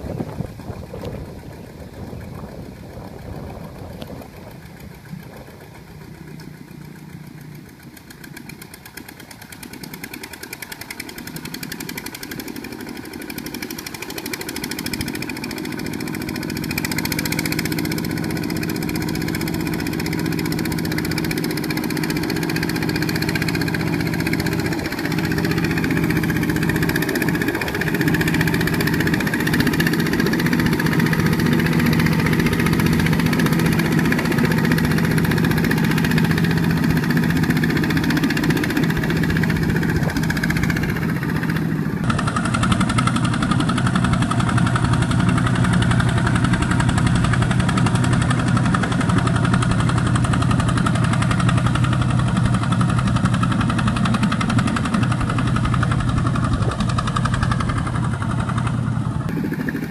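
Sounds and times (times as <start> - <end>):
diesel tractor engine running: 0.0 - 59.9
wheels pushing through mud: 0.0 - 59.9.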